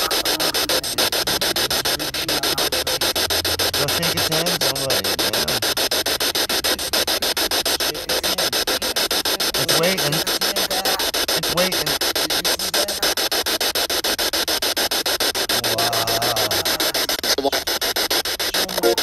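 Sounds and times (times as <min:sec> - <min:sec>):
wavering voice-like sounds: 0:00.0 - 0:13.3, 0:15.5 - 0:17.7, 0:18.4 - 0:19.0
chopped radio static: 0:00.0 - 0:19.0.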